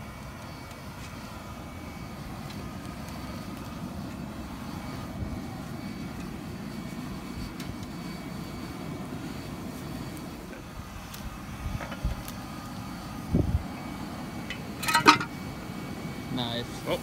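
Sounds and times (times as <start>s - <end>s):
burning coals popping: 0.0s - 17.0s
furnace roaring: 0.0s - 17.0s.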